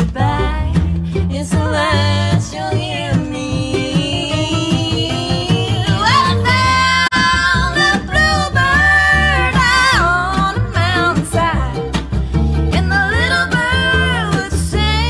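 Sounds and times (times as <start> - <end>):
person singing: 0.0 - 12.1, 12.7 - 15.0
guitar: 0.0 - 15.0.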